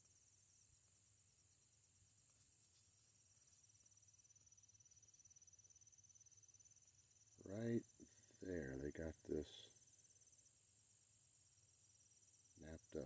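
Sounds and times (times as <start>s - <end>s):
crickets chirping in pulses: 0.0s - 13.0s
crickets trilling: 0.0s - 13.0s.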